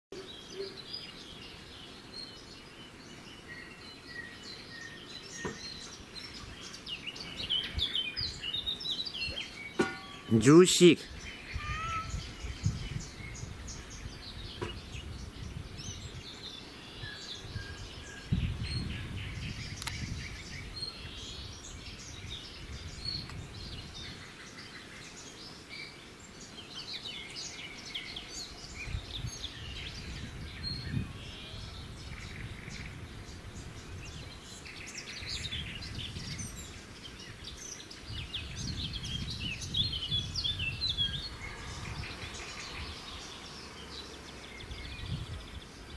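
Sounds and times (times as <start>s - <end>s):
birds chirping: 0.1s - 45.9s.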